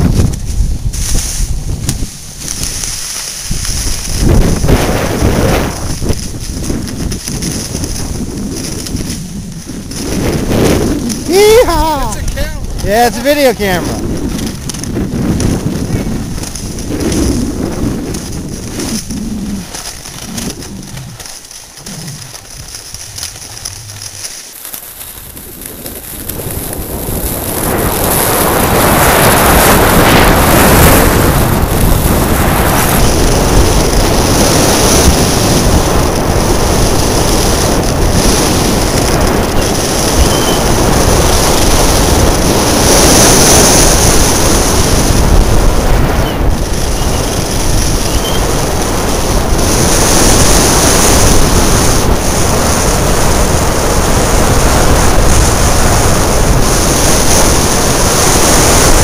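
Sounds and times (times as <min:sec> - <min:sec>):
skis running on snow: 0:00.0 - 0:59.0
wind rushing over microphone: 0:00.0 - 0:59.0.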